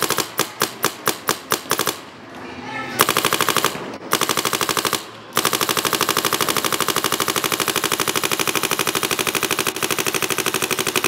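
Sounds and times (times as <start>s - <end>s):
paintball marker rapid firing: 0.0s - 2.1s, 3.0s - 11.0s.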